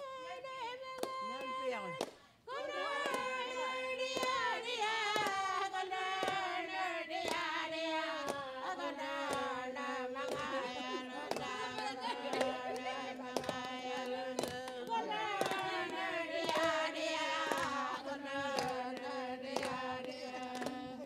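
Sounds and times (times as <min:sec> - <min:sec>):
group chanting in unison: 0:02.5 - 0:21.0.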